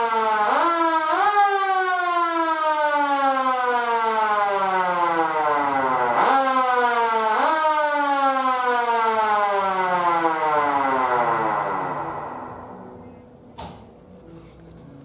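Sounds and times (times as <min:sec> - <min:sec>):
siren growling: 0:00.0 - 0:13.0.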